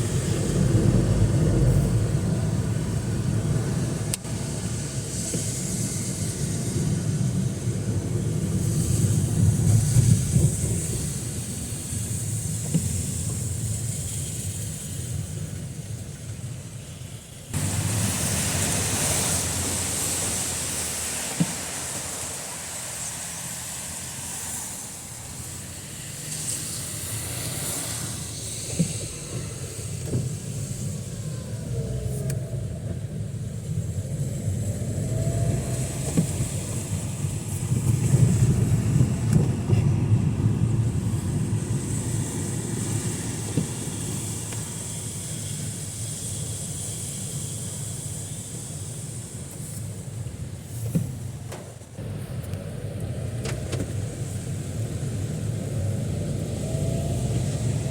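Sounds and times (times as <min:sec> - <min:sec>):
heavy rain: 0:00.0 - 0:57.9
low engine rumble: 0:00.0 - 0:57.9
tyres hissing on wet road: 0:00.0 - 0:57.9.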